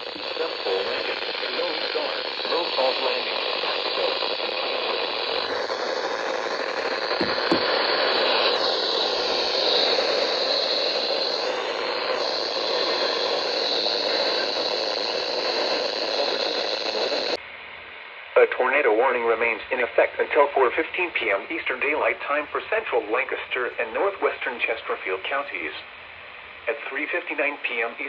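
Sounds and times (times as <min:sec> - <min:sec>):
radio static hiss: 0:00.0 - 0:17.4, 0:18.3 - 0:28.0.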